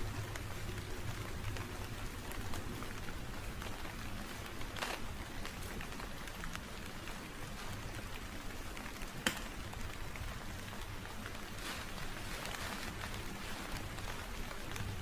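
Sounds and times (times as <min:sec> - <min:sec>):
raindrops clicking close by: 0:00.0 - 0:15.0
steady rain falling: 0:00.0 - 0:15.0.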